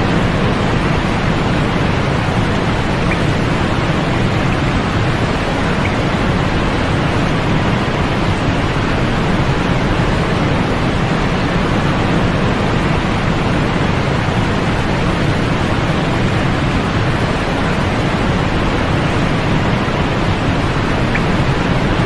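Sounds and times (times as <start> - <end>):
white noise hiss: 0.0 - 22.0.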